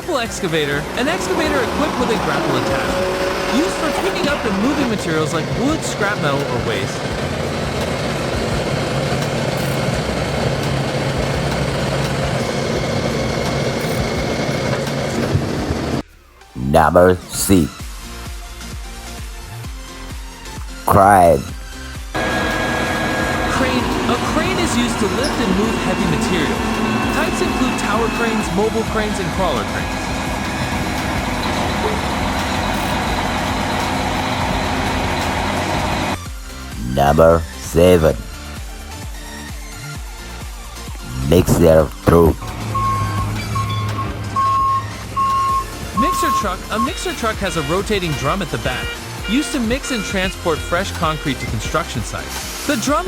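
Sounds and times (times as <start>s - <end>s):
excavator engine humming: 0.0s - 17.5s, 22.1s - 51.5s.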